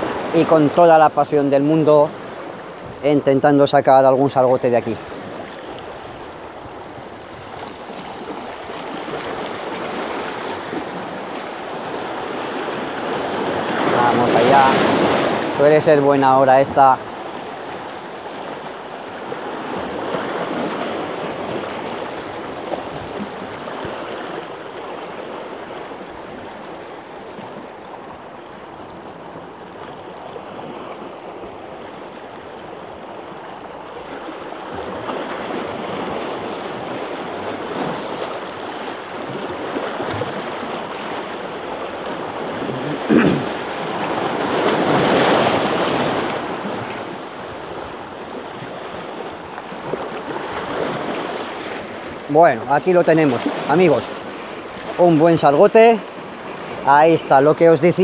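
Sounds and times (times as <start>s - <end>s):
waves splashing on rocks: 0.0s - 58.0s.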